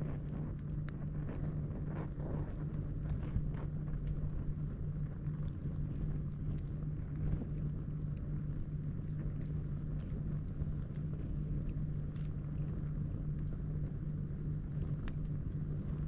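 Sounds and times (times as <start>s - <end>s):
low rumble and hum: 0.0s - 16.0s
campfire crackling and popping: 0.1s - 16.0s.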